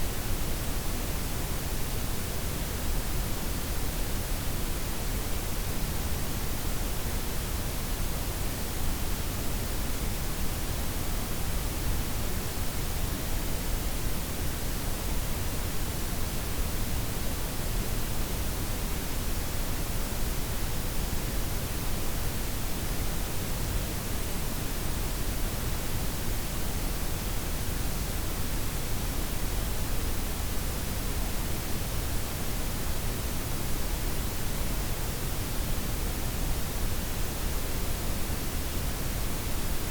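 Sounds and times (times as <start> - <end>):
steady noise hiss: 0.0 - 39.9.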